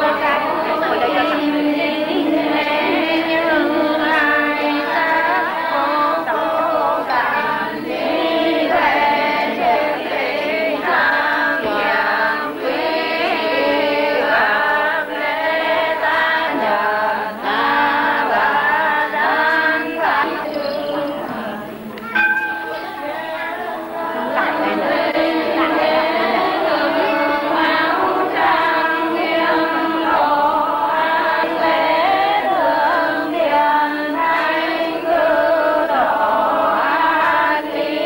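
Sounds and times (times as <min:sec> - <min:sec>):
women singing a chant: 0:00.0 - 0:22.0, 0:22.6 - 0:38.0.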